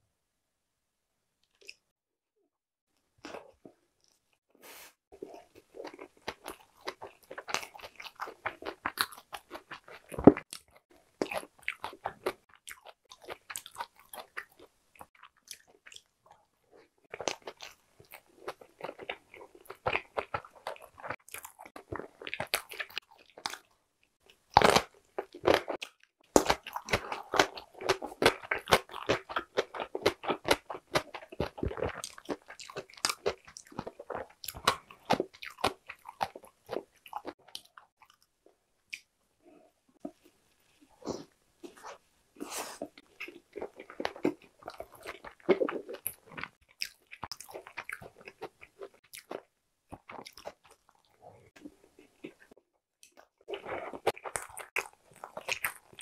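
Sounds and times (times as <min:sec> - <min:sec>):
person chewing: 0:05.2 - 0:38.3, 0:40.0 - 0:56.0.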